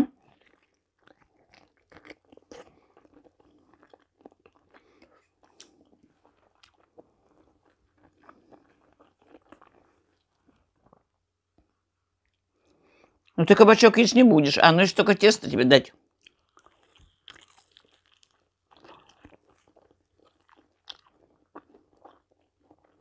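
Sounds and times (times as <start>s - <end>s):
chewing soft food: 0.1s - 13.4s, 15.9s - 23.0s.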